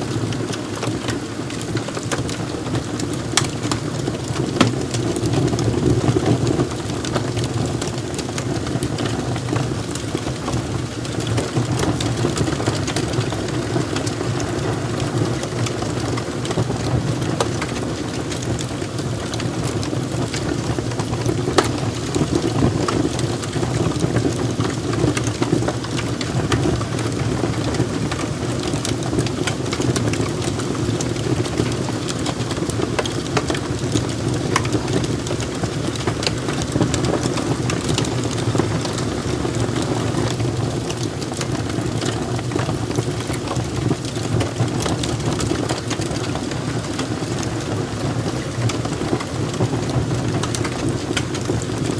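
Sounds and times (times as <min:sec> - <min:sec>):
fire crackling and popping: 0:00.0 - 0:51.9
flames rushing: 0:00.1 - 0:51.9.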